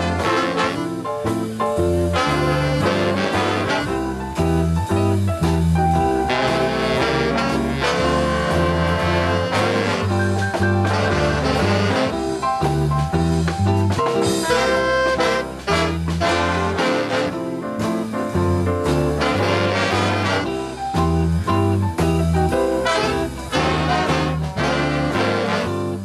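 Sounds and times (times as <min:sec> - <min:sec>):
brass section: 0:00.0 - 0:04.6, 0:06.0 - 0:12.8, 0:14.2 - 0:18.1, 0:18.8 - 0:21.3, 0:22.5 - 0:26.0
steady bass line: 0:00.0 - 0:26.0.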